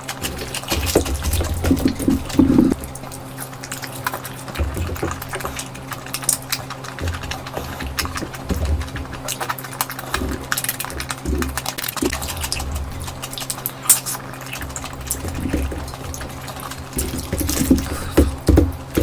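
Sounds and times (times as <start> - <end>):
wet chewing and lip-smacking: 0.0 - 19.0.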